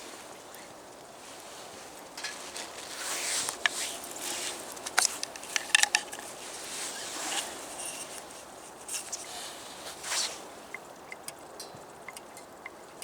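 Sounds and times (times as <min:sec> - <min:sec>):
small clicks and light clinks: 0:02.0 - 0:13.0.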